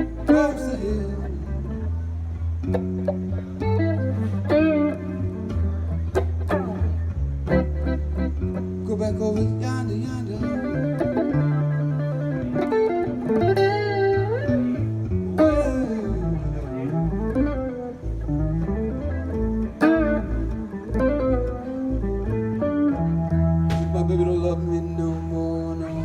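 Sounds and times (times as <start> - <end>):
bass and chords: 0.0 - 26.0
lead guitar with bent notes: 0.0 - 26.0.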